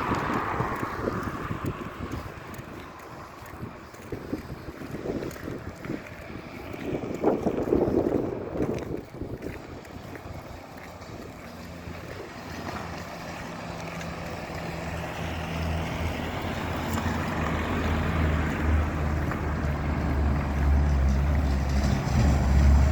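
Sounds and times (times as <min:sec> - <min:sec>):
vehicle engine hum: 0:00.0 - 0:22.9
wind noise: 0:00.0 - 0:22.9.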